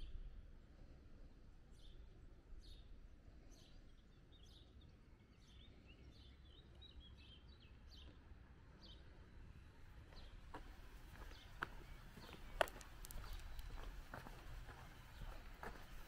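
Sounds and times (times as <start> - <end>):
faint low outdoor rumble: 0.0 - 16.0
small bird chirping: 1.7 - 16.0.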